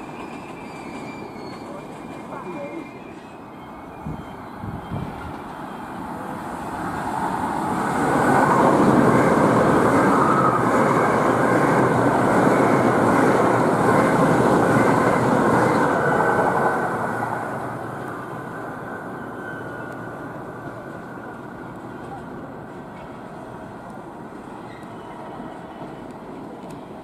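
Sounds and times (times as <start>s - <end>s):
train passing close by: 0.0s - 27.0s.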